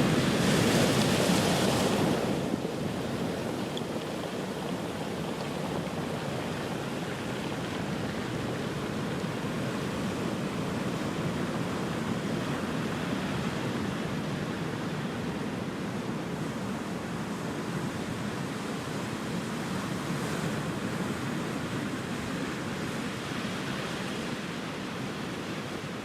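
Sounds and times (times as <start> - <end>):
waves washing onto shore: 0.0 - 26.0.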